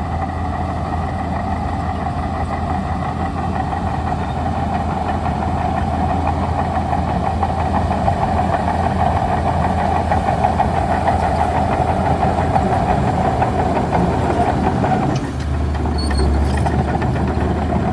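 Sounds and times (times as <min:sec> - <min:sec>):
bulldozer diesel engine running: 0:00.0 - 0:17.9
engine whine: 0:00.0 - 0:17.9.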